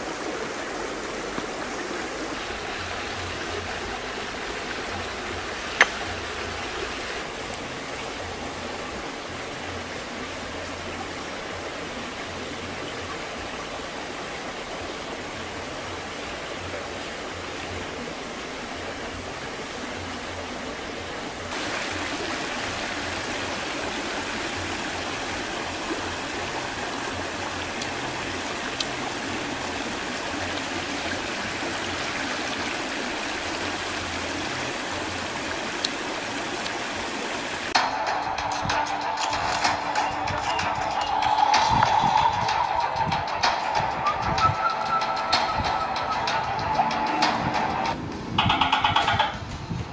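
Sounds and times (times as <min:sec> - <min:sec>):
stream rushing over rocks: 0:00.0 - 0:49.2.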